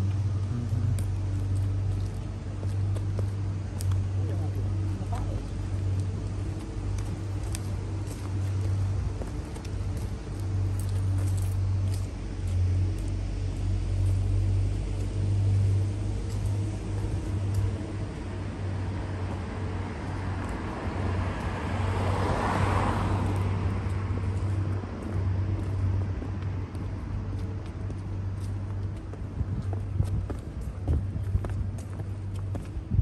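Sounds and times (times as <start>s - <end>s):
traffic rumble: 0.0s - 33.0s
vehicle passing by: 0.0s - 33.0s.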